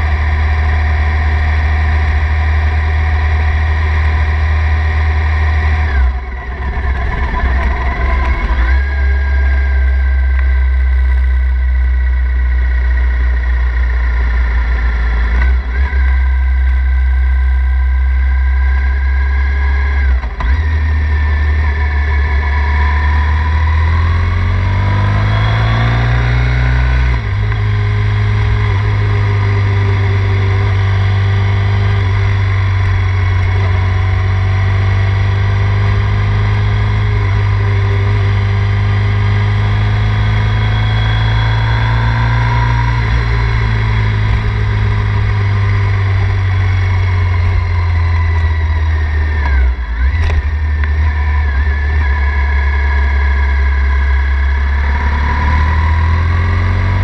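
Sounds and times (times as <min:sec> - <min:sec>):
motorcycle engine under way: 0:00.0 - 0:57.0.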